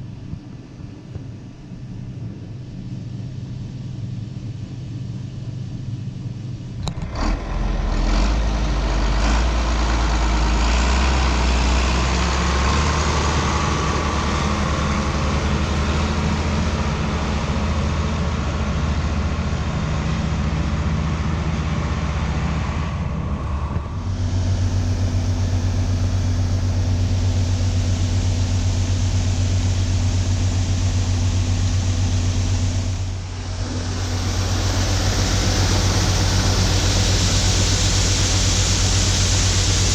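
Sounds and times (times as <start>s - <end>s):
heavy diesel farm machinery: 0.0s - 39.9s.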